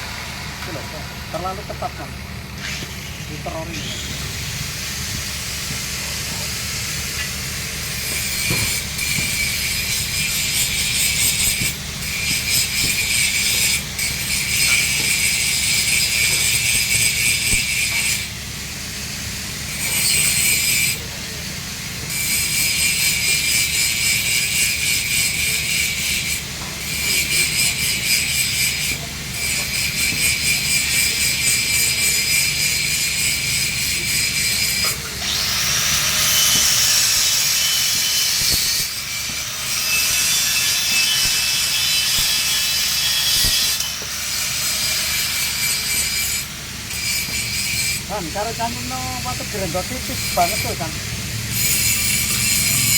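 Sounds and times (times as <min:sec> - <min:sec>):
angle grinder grinding steel pipe: 0:00.0 - 0:18.4, 0:19.6 - 0:21.1, 0:22.0 - 0:52.9.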